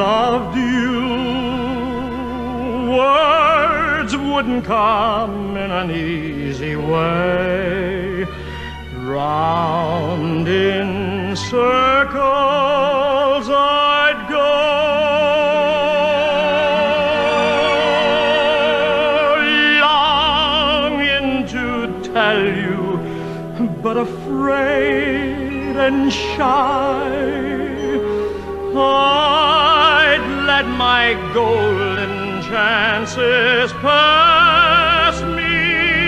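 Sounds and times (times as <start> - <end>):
operatic singing with vibrato: 0.0 - 36.0.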